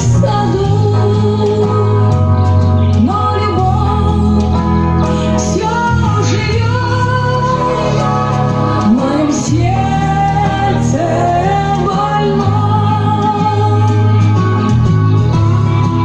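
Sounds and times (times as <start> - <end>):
person singing: 0.0 - 16.0
sustained bass notes: 0.0 - 16.0.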